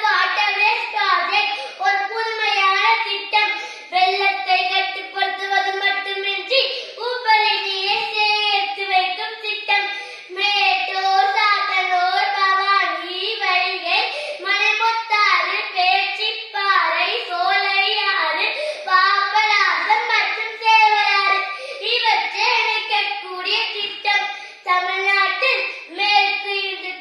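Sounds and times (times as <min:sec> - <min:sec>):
boy giving a speech: 0:00.0 - 0:27.0.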